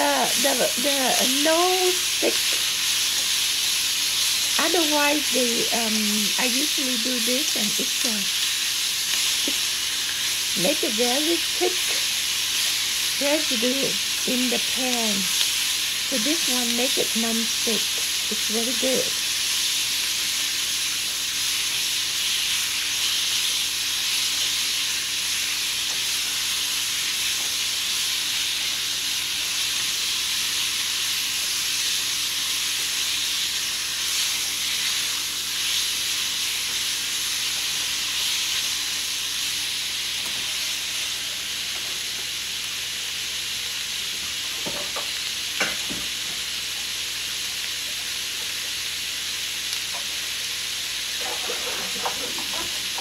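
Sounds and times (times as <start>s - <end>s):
vegetables sizzling in a wok: 0.0s - 53.0s.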